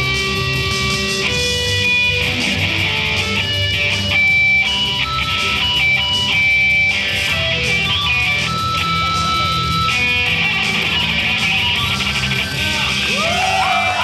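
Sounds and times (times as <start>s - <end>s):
electric guitar melody: 0.0s - 14.0s.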